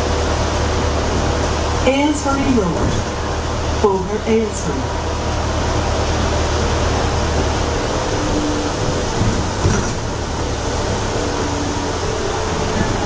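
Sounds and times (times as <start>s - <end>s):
bus running hum: 0.0s - 13.0s.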